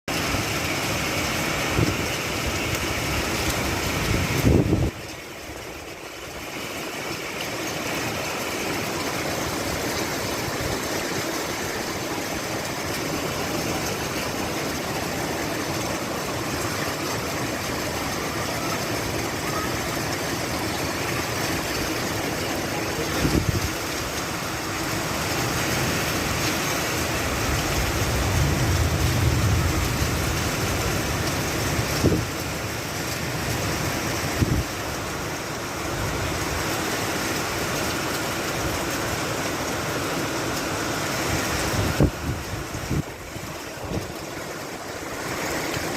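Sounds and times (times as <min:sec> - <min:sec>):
rain falling: 0:00.1 - 0:45.9.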